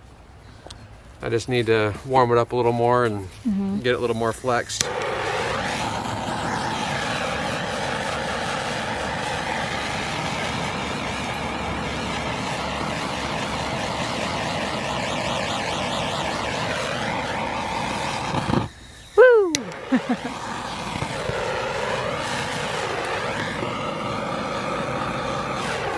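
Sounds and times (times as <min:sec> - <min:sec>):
torch flame hissing: 0:03.8 - 0:25.9.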